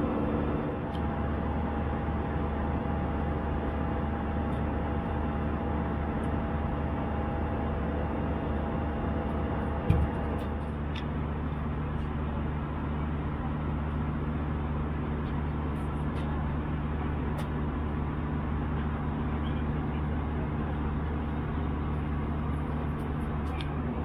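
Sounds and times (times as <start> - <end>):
airliner engine hum: 0.0 - 24.0.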